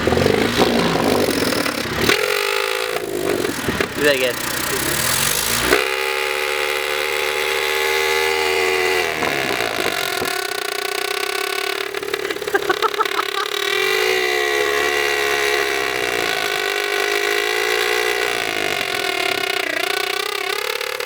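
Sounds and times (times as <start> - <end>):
car engine through loud exhaust: 0.0 - 21.0.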